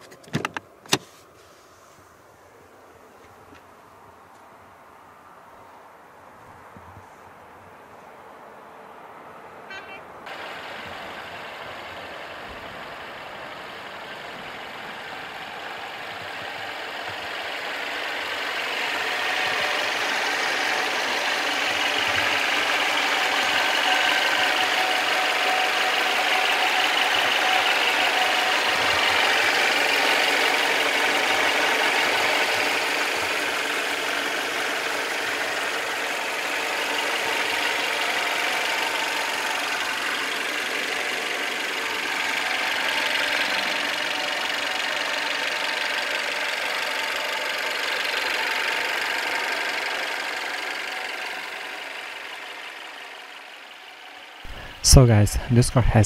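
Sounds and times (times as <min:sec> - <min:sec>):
car engine idling: 0:09.8 - 0:56.0.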